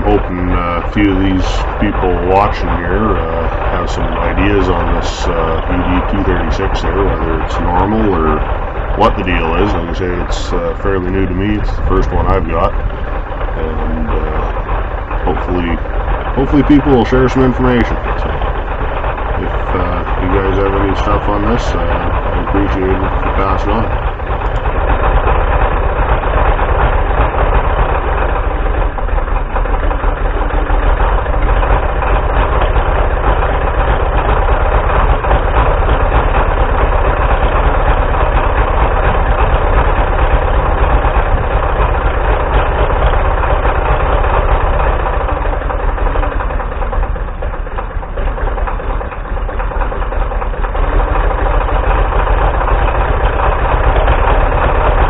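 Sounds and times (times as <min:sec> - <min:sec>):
diesel engine running rough: 0:00.0 - 0:55.0.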